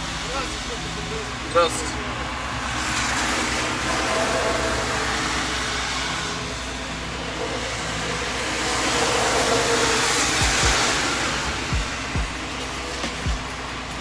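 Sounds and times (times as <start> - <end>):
traffic noise: 0.0 - 14.0
truck engine running: 0.0 - 14.0.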